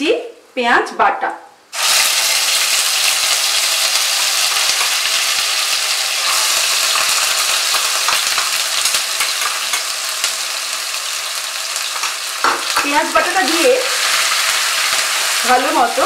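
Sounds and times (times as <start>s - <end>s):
paste sizzling in hot oil: 1.8s - 16.0s.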